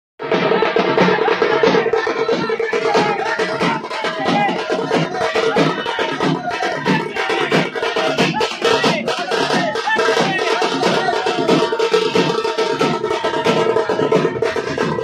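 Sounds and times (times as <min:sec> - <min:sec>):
fast dense drumming: 0:00.2 - 0:15.0.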